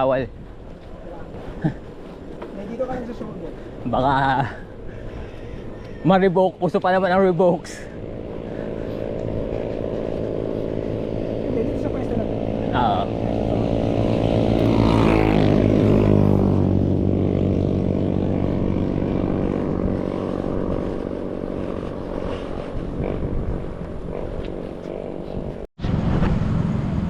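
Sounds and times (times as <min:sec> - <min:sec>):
motorcycle engine running: 0:00.4 - 0:27.0.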